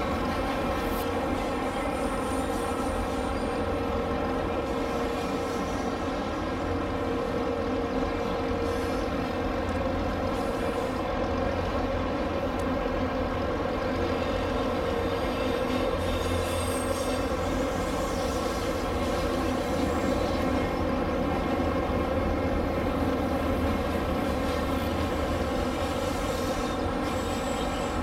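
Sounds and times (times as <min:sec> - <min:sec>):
model train diesel engine sound: 0:00.0 - 0:28.0.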